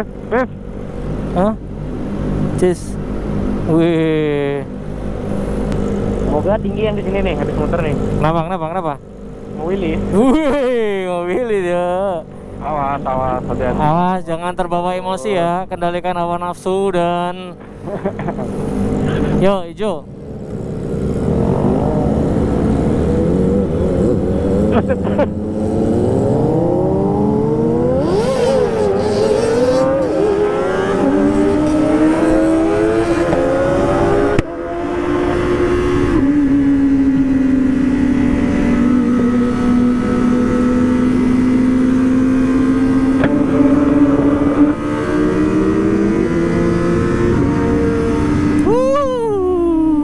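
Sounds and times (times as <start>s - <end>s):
motorcycle engines revving: 0.0s - 14.2s, 17.5s - 50.0s.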